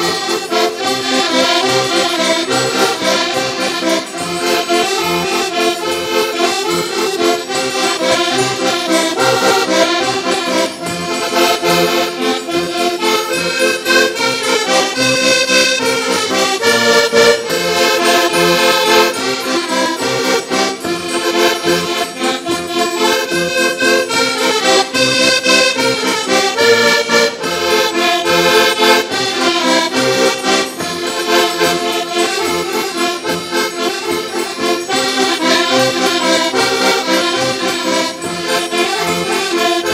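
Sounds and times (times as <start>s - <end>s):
concertinas playing folk tune: 0.0s - 39.9s.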